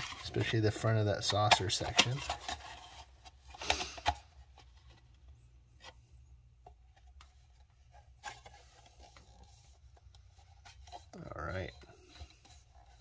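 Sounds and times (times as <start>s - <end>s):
plastic rubbing and scraping: 0.0s - 13.0s.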